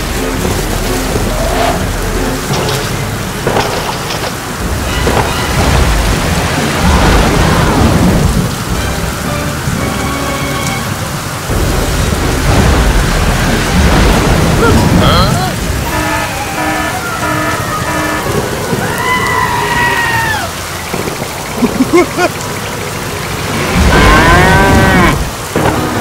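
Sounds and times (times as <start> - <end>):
rolling thunder: 0.0 - 9.8, 11.4 - 21.9, 23.2 - 26.0
heavy rain pouring: 0.0 - 26.0.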